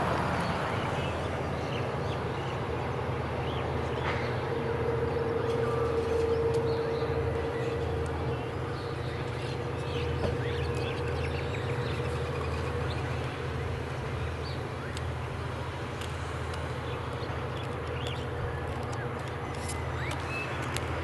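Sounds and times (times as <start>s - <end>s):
freight train rolling on track: 0.0s - 21.0s.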